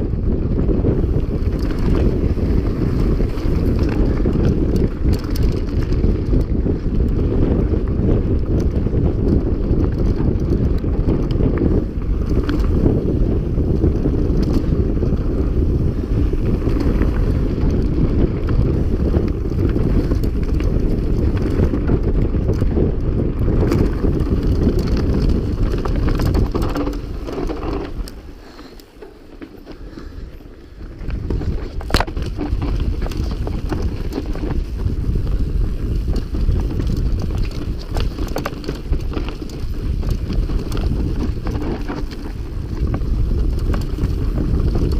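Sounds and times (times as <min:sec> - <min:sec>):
wind noise on microphone: 0:00.0 - 0:44.9
tyre rumble on dirt: 0:00.7 - 0:30.2, 0:30.9 - 0:44.9.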